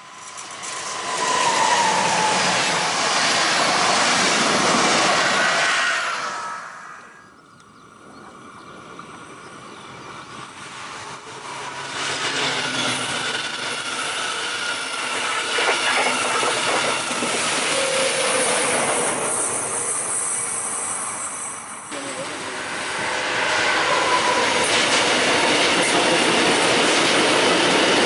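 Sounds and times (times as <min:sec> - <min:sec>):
train passing: 0:00.0 - 0:28.0.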